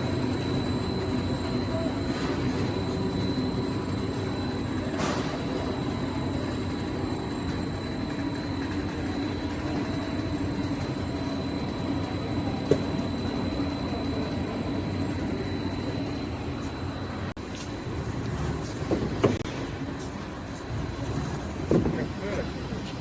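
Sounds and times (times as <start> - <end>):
extruder machine drone: 0.0 - 23.0
thin high whine: 0.0 - 23.0.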